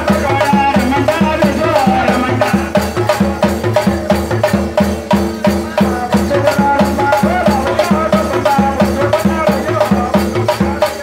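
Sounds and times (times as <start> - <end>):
barrel drums beaten: 0.0 - 11.0
brass hand cymbals clashing: 0.0 - 11.0.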